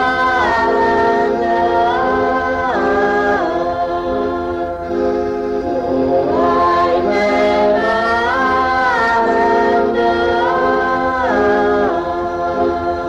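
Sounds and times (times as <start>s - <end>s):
voices singing sliding long notes: 0.0s - 13.0s.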